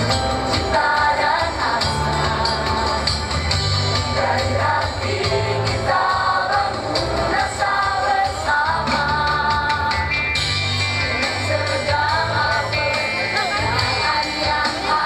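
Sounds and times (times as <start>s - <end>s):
musical accompaniment with bass and beat: 0.0s - 15.0s
choir singing in harmony: 0.2s - 3.2s, 3.9s - 10.0s, 11.0s - 15.0s.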